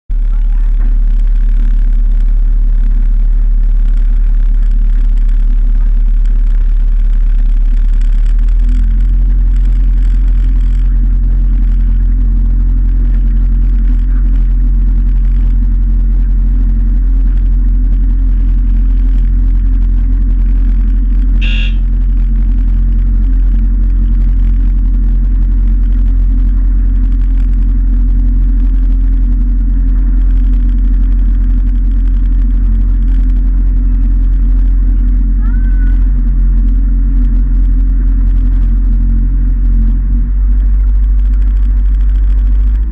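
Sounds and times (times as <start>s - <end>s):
motorboat engine droning: 0.1s - 42.9s.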